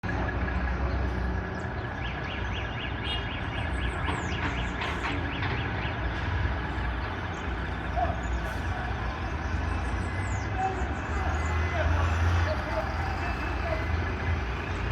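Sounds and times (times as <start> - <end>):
truck engine rumble: 0.0 - 14.9.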